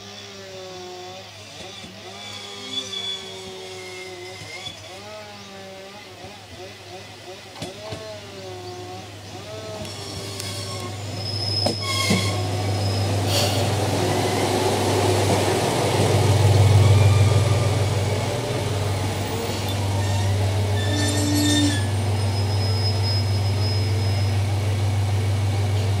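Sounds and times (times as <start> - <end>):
diesel railcar engine hum: 0.0 - 26.0.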